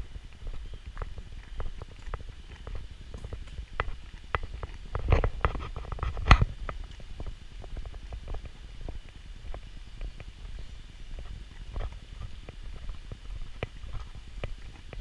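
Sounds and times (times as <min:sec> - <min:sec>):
footsteps: 0:00.0 - 0:15.0.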